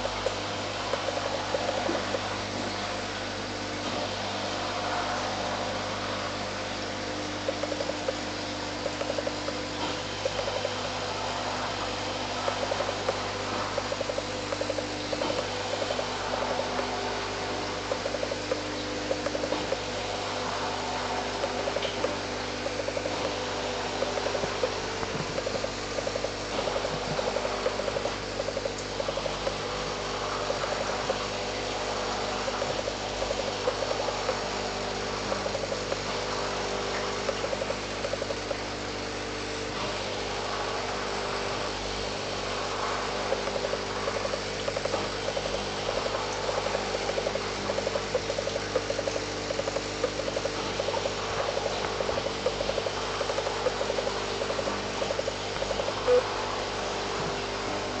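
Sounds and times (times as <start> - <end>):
small ticks: 0.0 - 3.1, 4.8 - 57.3
steady mechanical hum: 0.0 - 58.0.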